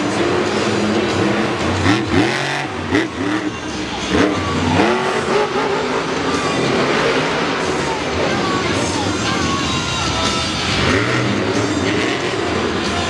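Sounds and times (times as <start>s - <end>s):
stadium crowd noise: 0.0s - 13.0s
truck engine revving hard: 0.0s - 13.0s.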